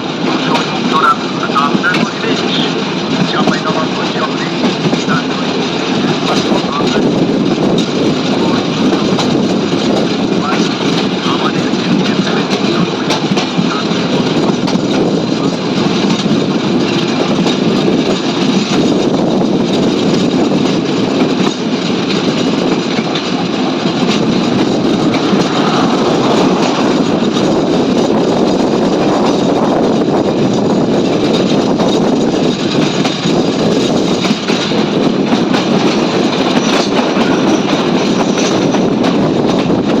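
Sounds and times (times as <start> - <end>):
train rumbling on rails: 0.0 - 40.0
wheels clicking over rail joints: 0.0 - 40.0.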